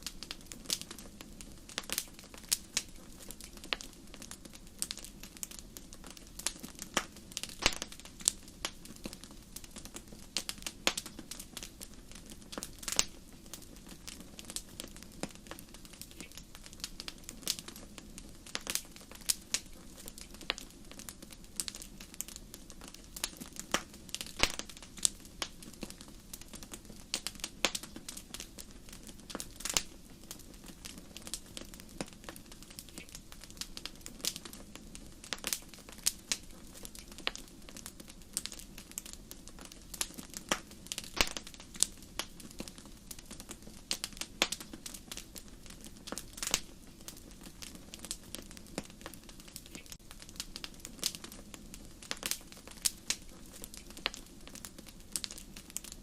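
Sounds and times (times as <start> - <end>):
fire hissing: 0.0 - 56.0
wood fire crackling: 0.0 - 56.0.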